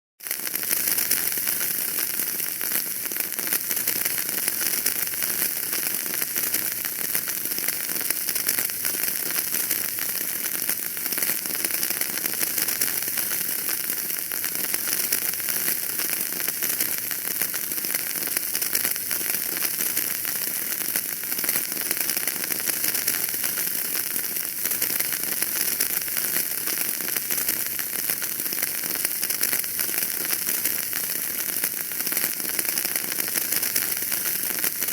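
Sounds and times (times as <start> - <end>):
wood fire crackling and popping: 0.2 - 34.9.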